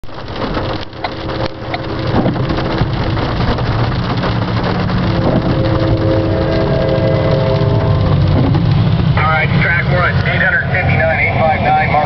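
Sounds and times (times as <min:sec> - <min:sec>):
train rumble: 0:00.0 - 0:12.0
locomotive engine tones: 0:00.1 - 0:12.0.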